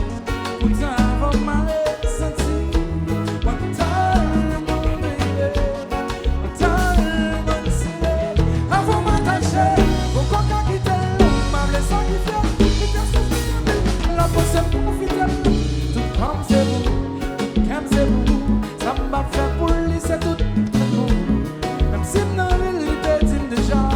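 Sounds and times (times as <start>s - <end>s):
drum kit and percussion: 0.0s - 23.9s
live band music: 0.0s - 23.9s
person singing: 0.0s - 23.9s.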